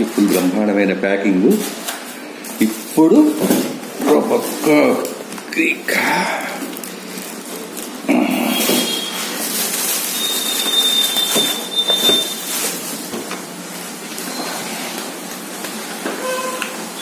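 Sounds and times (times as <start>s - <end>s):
plastic wrapping crinkling: 1.5s - 16.1s.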